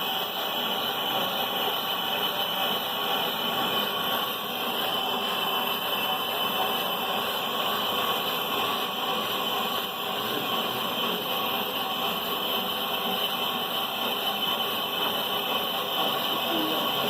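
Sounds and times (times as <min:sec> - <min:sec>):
lathe machining noise: 0:00.0 - 0:17.0.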